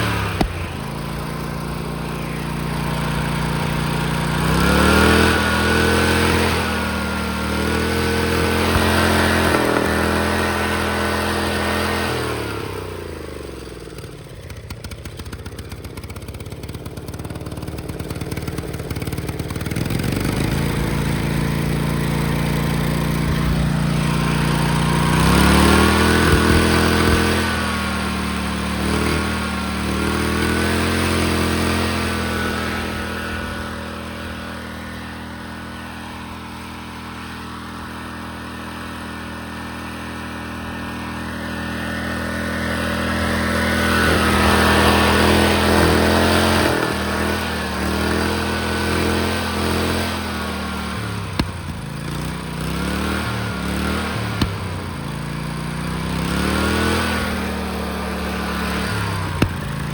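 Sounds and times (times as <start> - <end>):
tractor engine revving: 0.0 - 59.9.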